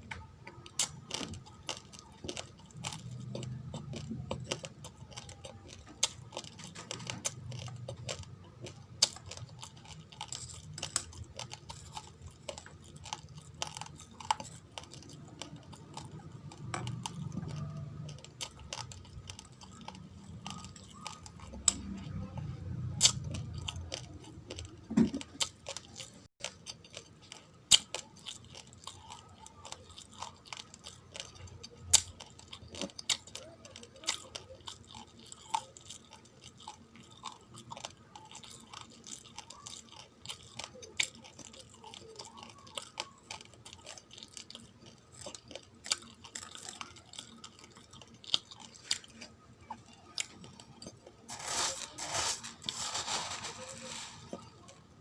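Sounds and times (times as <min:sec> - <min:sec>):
person chewing raw rice: 0:00.5 - 0:54.9.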